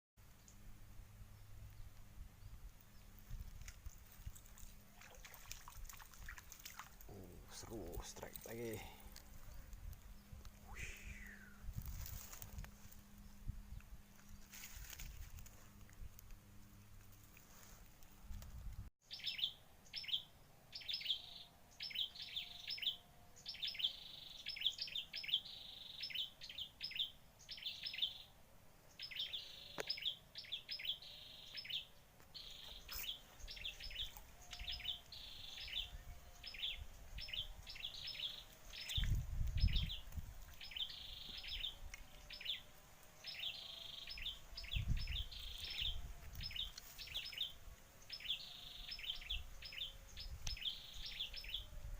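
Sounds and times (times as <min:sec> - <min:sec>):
birds chirping: 0:01.3 - 0:17.8, 0:19.0 - 0:28.3, 0:28.9 - 0:51.9.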